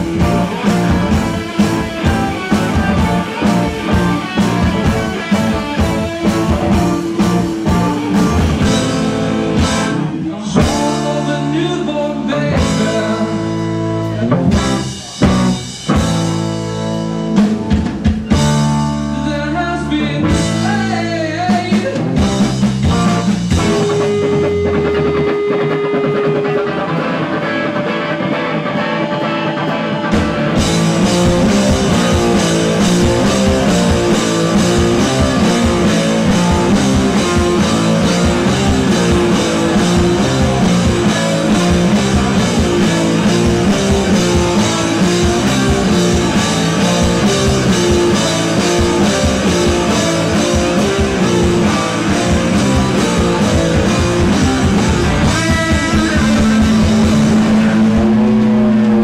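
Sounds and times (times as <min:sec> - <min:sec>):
heavy rock band playing: 0:00.0 - 0:59.0.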